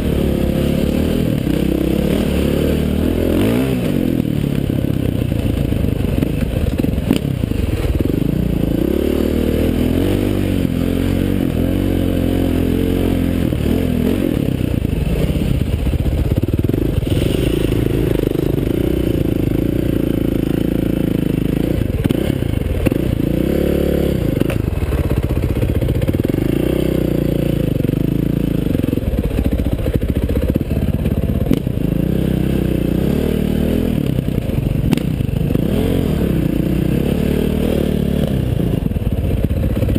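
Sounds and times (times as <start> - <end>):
dirt bike engine revving: 0.0 - 39.1.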